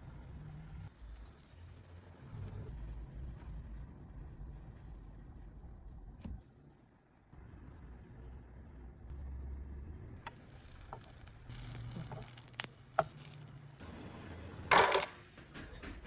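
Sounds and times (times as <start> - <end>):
low steady hum: 2.0 - 15.2.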